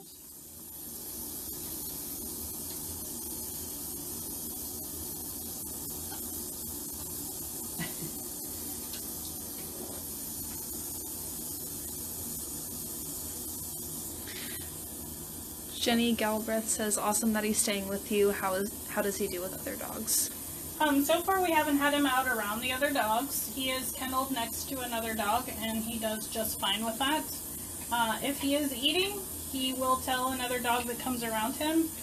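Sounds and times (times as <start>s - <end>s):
shower water running: 0.0s - 32.0s.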